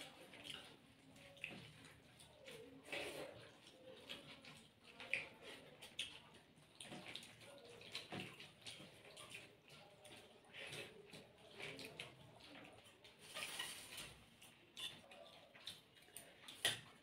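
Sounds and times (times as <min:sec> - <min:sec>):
mouths chewing: 0:00.0 - 0:17.0.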